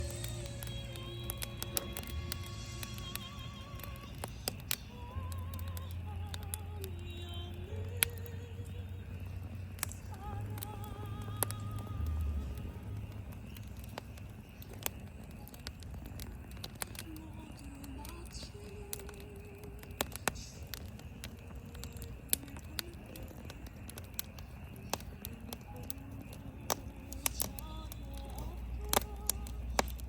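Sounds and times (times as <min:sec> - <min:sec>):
campfire pops and crackles: 0:00.0 - 0:30.0
flames hissing: 0:00.0 - 0:30.0.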